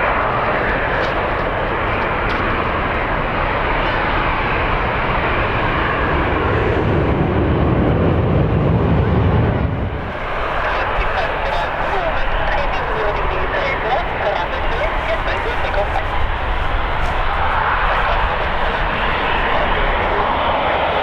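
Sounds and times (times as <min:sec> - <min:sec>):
jet airliner passing: 0:00.0 - 0:21.0
wind on microphone: 0:00.0 - 0:21.0.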